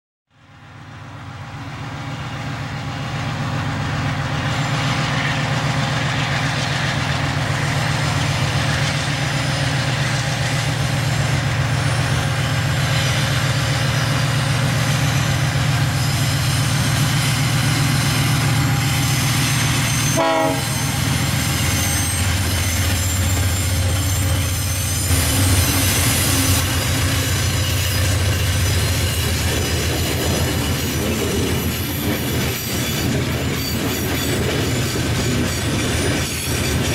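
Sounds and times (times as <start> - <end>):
locomotive low drone: 0.4 - 36.9.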